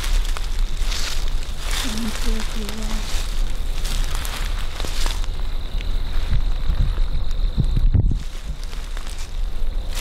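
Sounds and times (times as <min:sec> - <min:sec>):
footsteps through dry leaves: 0:00.0 - 0:07.1, 0:08.1 - 0:10.0
low microphone rumble: 0:00.0 - 0:10.0.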